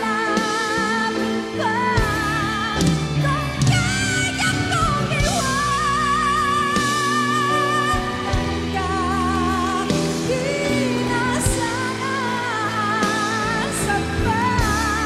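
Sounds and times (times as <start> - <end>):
instrumental backing music: 0.0 - 15.0
woman singing pop ballad: 0.0 - 15.0.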